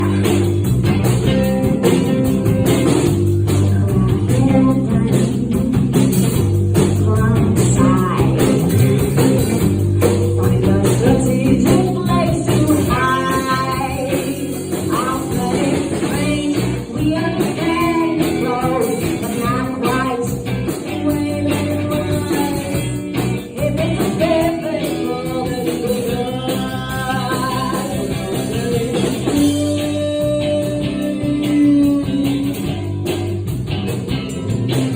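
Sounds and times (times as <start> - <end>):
person singing: 0.0 - 0.6, 3.5 - 9.0, 10.0 - 33.0
rock band playing live: 0.0 - 34.9.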